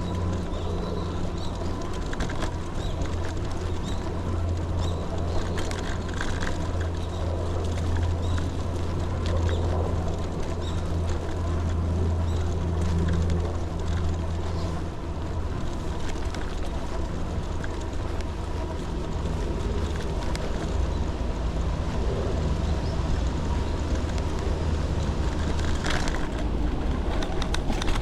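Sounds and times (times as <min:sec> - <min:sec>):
vehicle road noise: 0:00.0 - 0:28.0.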